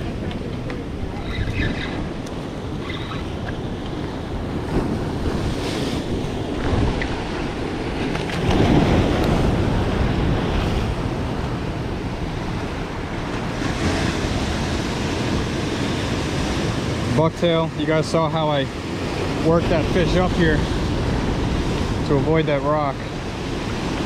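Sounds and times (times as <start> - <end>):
surf breaking against rocks: 3.5 - 24.0.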